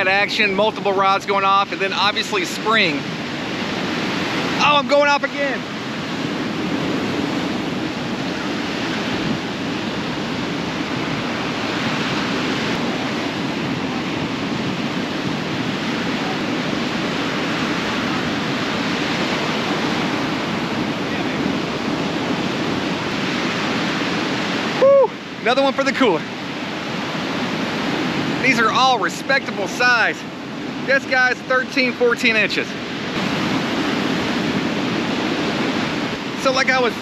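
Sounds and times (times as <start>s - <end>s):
surf breaking on beach: 0.0s - 37.0s
wind: 0.0s - 37.0s.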